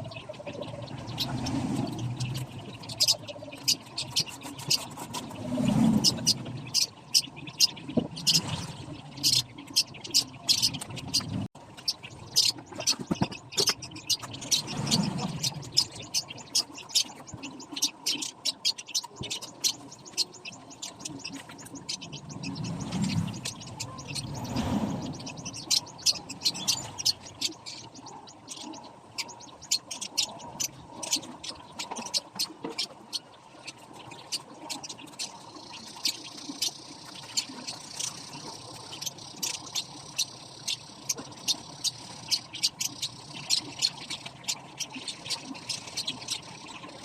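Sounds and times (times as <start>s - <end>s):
parakeets chirping: 0.0s - 47.0s.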